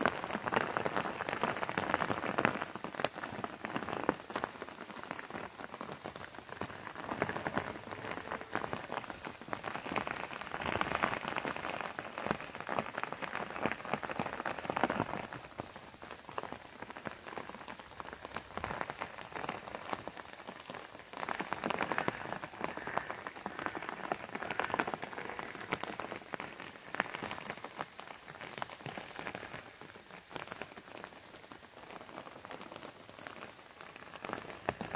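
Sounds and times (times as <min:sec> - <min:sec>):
rain falling on tree leaves: 0:00.0 - 0:34.9.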